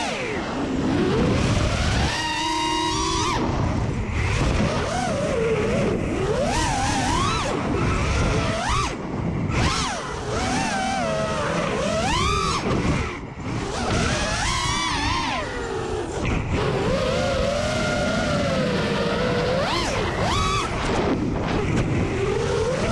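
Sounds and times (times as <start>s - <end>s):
drone motors whining: 0.0s - 22.9s
wind noise on microphone: 0.0s - 22.9s.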